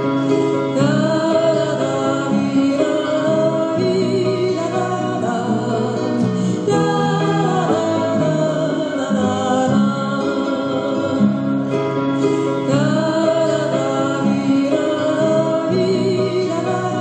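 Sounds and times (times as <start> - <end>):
guitar accompaniment: 0.0 - 17.0
person singing: 0.0 - 17.0.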